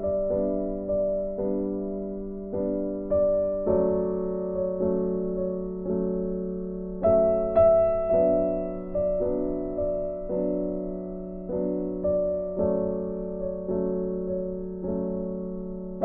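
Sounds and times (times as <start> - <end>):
piano playing slow chords: 0.0 - 16.0.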